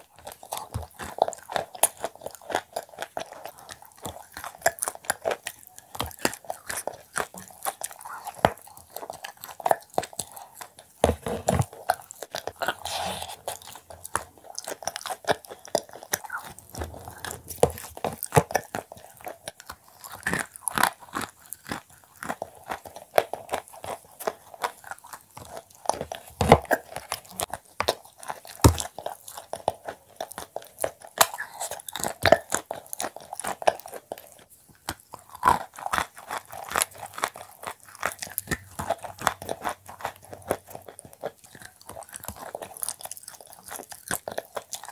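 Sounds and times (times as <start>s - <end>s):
cookie crunching: 0.0s - 44.9s.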